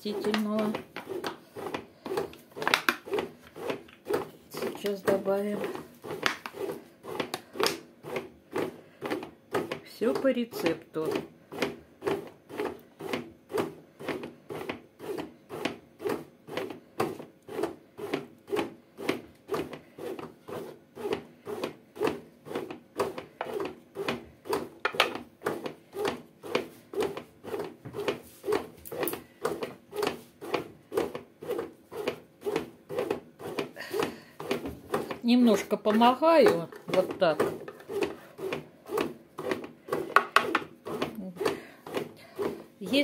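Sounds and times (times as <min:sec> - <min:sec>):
bread maker kneading dough: 0:00.0 - 0:43.0.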